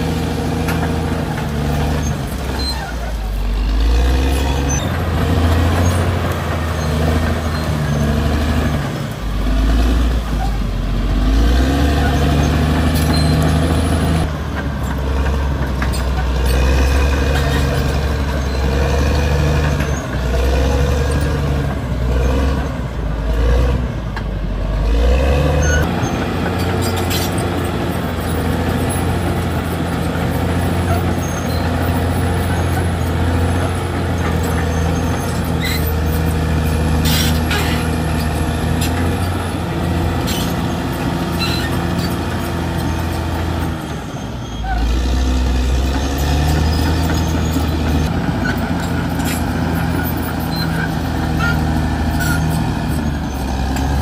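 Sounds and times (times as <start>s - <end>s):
bulldozer diesel engine under load: 0.0s - 54.0s.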